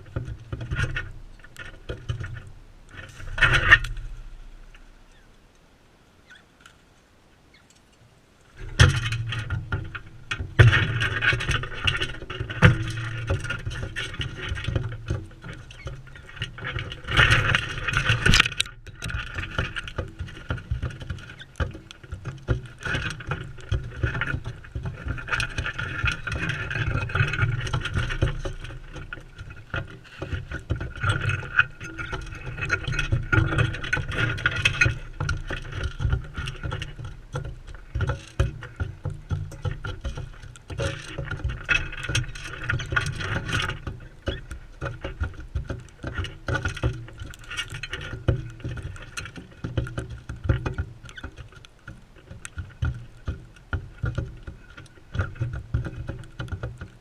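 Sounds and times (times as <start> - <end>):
wind rumble on microphone: 7.5 - 57.0.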